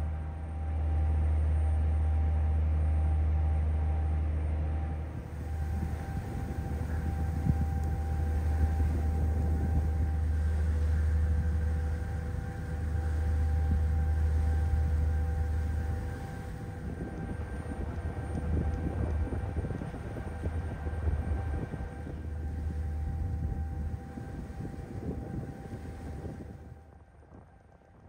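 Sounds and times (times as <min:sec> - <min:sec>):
faint constant hum: 0:00.0 - 0:28.0
ferry engines rumbling: 0:00.0 - 0:28.0.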